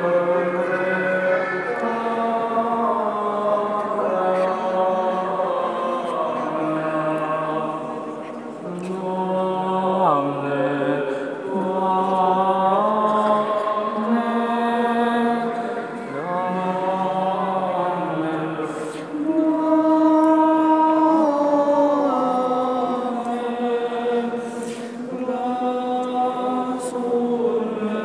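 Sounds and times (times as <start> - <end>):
man chanting a hymn: 0.0 - 28.0.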